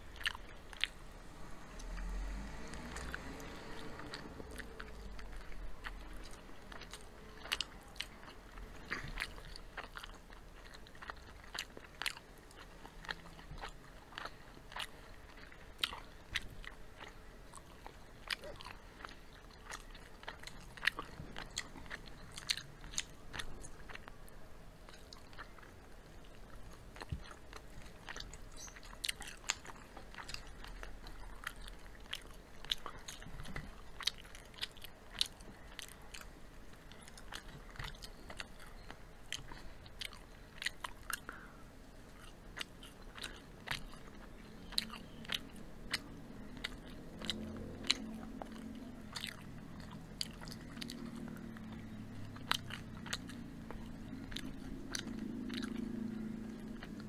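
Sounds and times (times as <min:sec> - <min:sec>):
people chewing fried chicken: 0:00.0 - 0:57.0
crunching crispy coating: 0:01.7 - 0:57.0.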